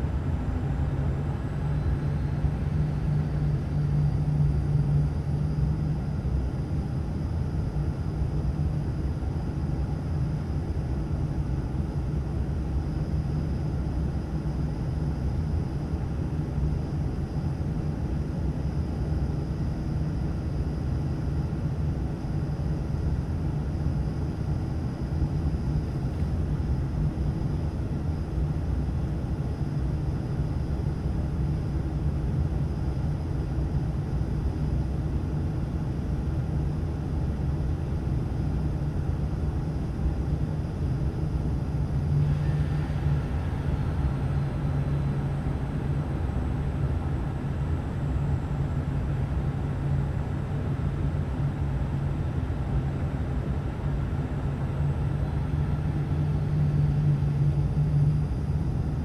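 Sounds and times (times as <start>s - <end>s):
propeller and engine hum: 0.0s - 59.0s.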